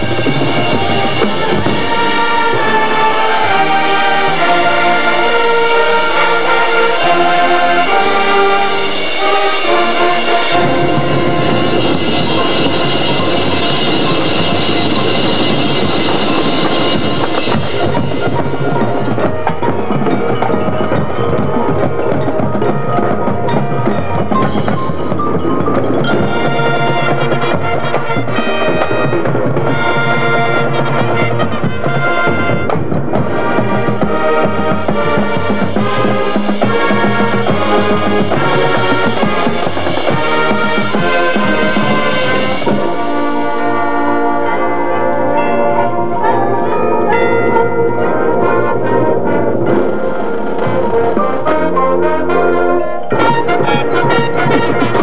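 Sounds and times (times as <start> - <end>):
mallet keyboards and drums: 0.0 - 55.0
marching band playing: 0.0 - 55.0.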